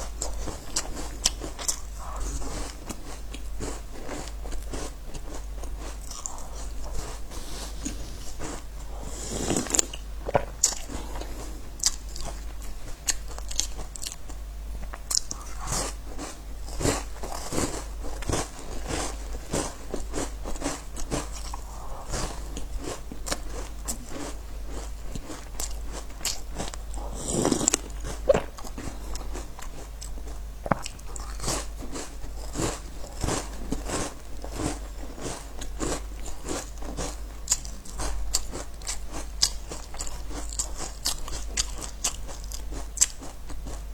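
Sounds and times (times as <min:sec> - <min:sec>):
biting and chewing crunchy biscuits: 0:00.0 - 0:43.9
faint low hum: 0:00.0 - 0:43.9.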